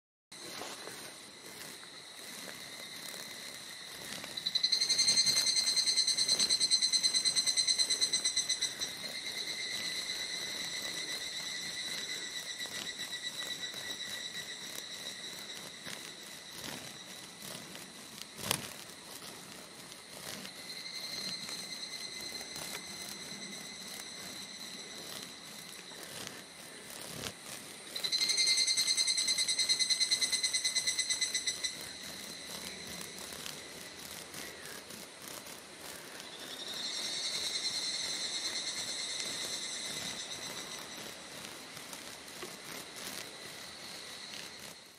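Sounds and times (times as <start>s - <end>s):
cicadas singing: 0.3s - 44.9s.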